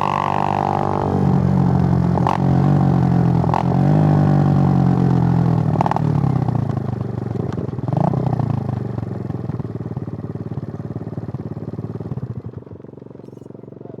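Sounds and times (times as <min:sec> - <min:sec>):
motorcycle engine running down: 0:00.0 - 0:14.0.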